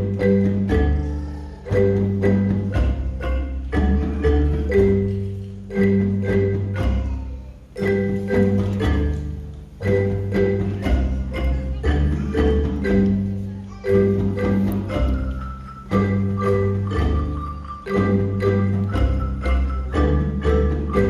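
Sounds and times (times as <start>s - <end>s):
mallet percussion ensemble playing: 0.0s - 21.0s.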